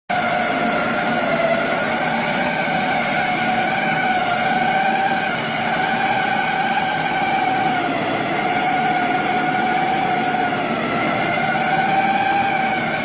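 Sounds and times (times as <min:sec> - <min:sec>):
machine whine: 0:00.1 - 0:13.0.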